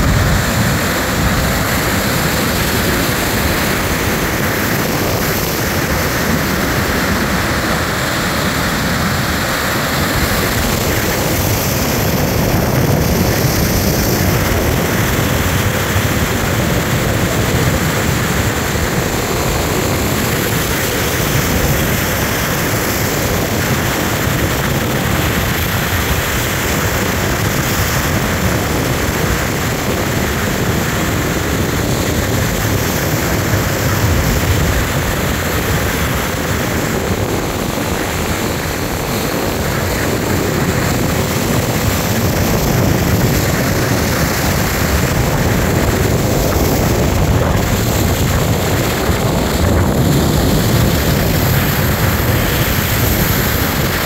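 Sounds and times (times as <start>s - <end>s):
waves crashing on rocky shore: 0.0s - 54.0s
wind rumble on microphone: 0.0s - 54.0s.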